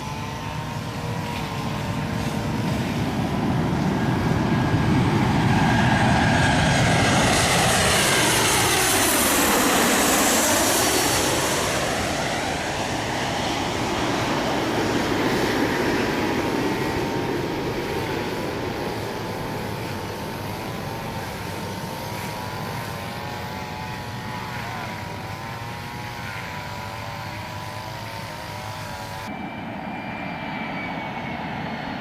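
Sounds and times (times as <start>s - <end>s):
airplane passing overhead: 0.0s - 32.0s.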